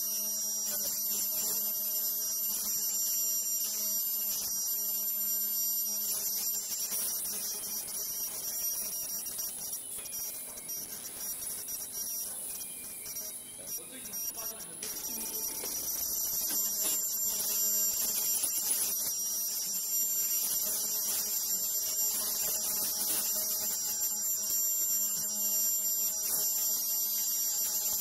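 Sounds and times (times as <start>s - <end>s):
machine humming with high whine: 0.0s - 28.0s.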